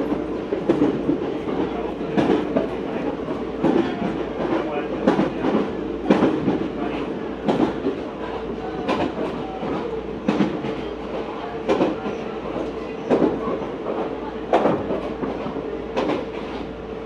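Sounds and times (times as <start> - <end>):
train running hum: 0.0 - 17.0.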